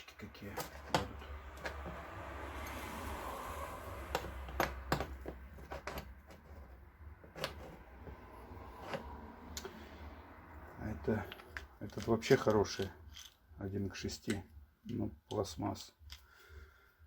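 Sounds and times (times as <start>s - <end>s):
hard parts clicking and clacking: 0.0s - 3.1s, 4.0s - 9.9s, 10.8s - 16.4s.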